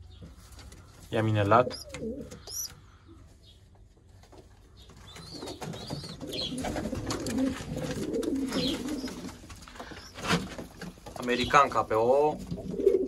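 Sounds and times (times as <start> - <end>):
pigeons cooing: 0.7 - 3.2, 4.8 - 13.0.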